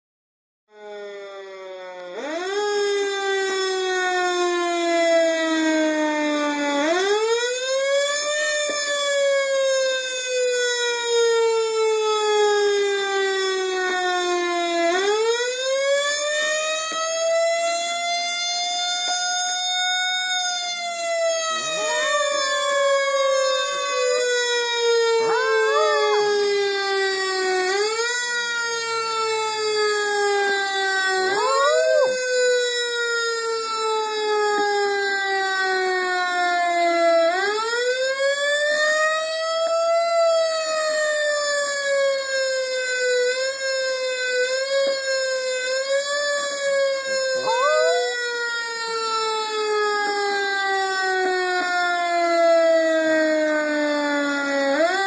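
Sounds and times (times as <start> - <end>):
fire truck siren wailing: 0.7 - 55.0.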